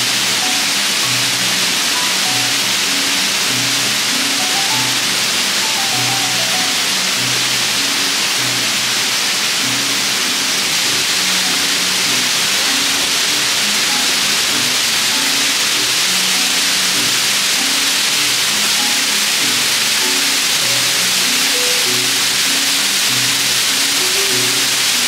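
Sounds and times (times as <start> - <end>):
background music of low notes: 0.0 - 25.0
waterfall rushing: 0.0 - 25.0.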